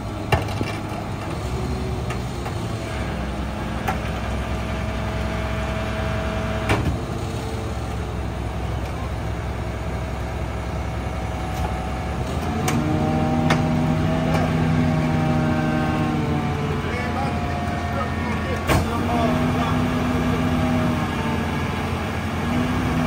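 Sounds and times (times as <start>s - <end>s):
garbage truck engine: 0.0s - 23.0s.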